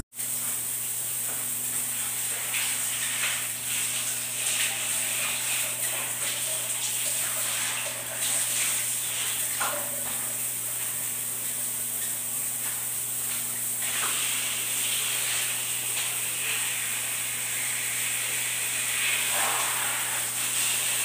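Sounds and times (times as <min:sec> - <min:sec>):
shower water spraying: 0:00.2 - 0:21.0.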